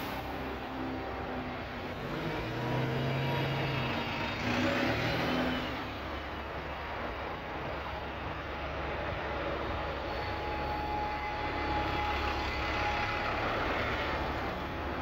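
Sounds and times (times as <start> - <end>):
buses passing: 0.0 - 15.0.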